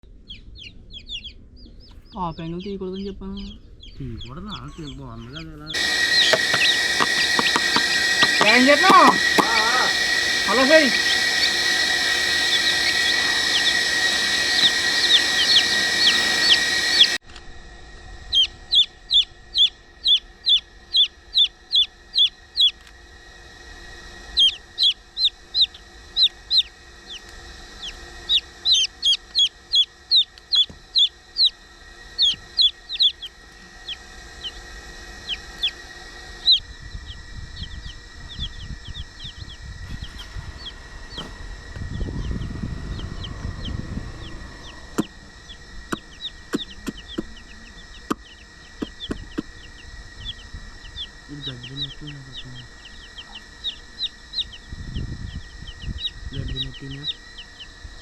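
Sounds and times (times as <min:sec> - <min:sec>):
background hiss and hum: 0:00.0 - 0:58.0
chicks peeping: 0:00.3 - 0:17.2, 0:18.3 - 0:22.9, 0:24.4 - 0:31.6, 0:32.2 - 0:34.6, 0:36.4 - 0:57.7.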